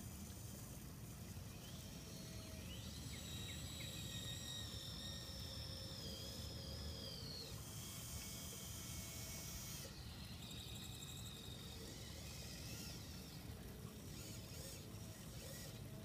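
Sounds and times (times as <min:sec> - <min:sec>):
small electric winch motor whining: 0:00.0 - 0:16.0.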